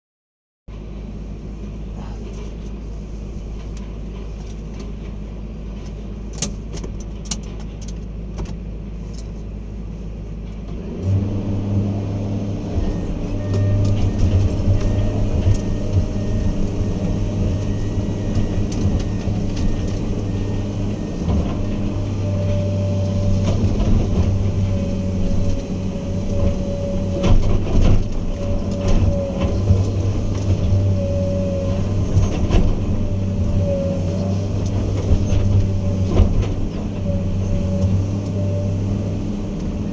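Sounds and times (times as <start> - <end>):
diesel engine rumbling and revving: 0.7 - 39.9.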